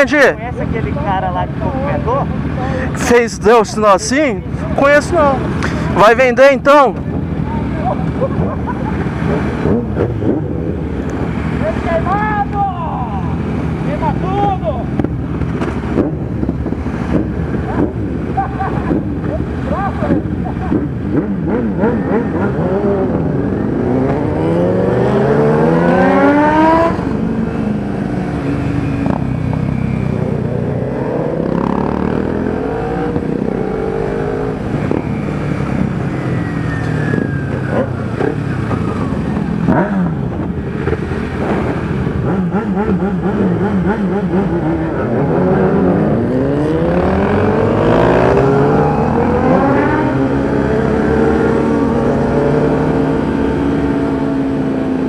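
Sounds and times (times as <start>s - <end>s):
motorcycle engines accelerating: 0.0s - 55.0s
wind and road noise: 0.0s - 55.0s.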